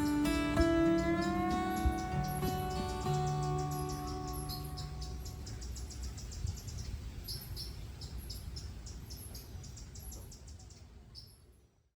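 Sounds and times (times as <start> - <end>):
crickets chirping: 0.0 - 10.1.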